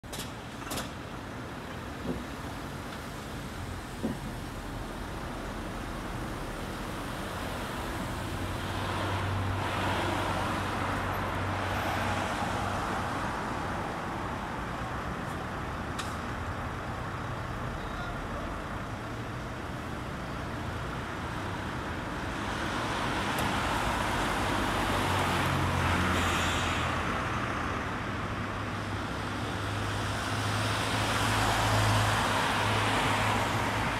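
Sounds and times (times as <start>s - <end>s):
road traffic: 0.0s - 33.9s
vehicles passing: 0.1s - 33.9s.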